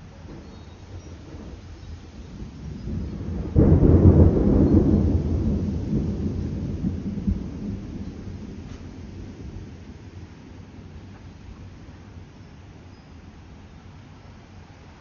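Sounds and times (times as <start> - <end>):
thunder rumbling and cracking: 0.0 - 12.4.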